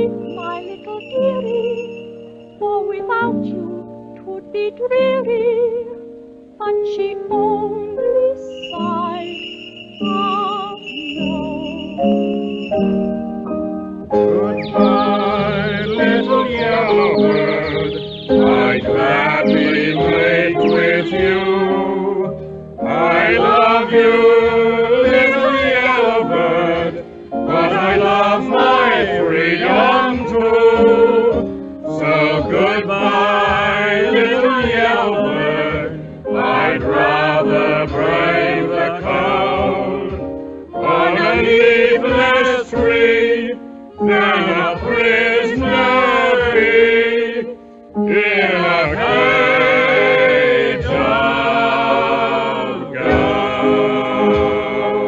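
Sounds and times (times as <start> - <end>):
person singing: 0.0 - 1.9, 2.6 - 6.0, 10.0 - 12.3, 14.2 - 47.5, 48.1 - 55.0
musical accompaniment: 0.0 - 55.0.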